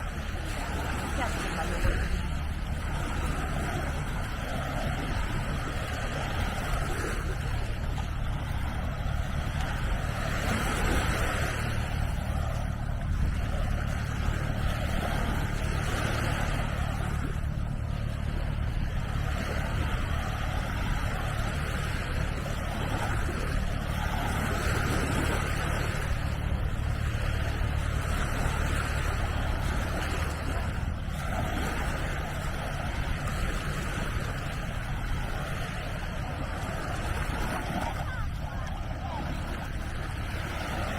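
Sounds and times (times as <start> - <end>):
small waves hissing on shore: 0.0 - 40.9
wind rumbling on microphone: 0.0 - 40.9.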